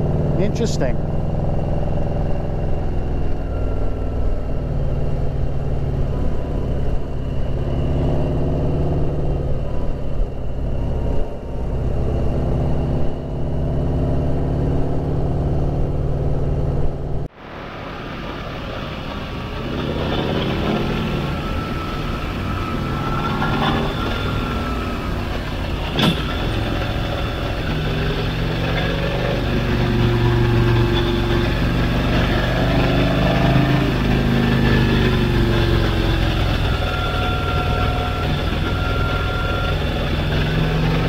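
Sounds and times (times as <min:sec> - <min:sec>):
motorcycle engine running: 0:00.0 - 0:17.3, 0:19.1 - 0:41.0
road noise: 0:00.0 - 0:41.0.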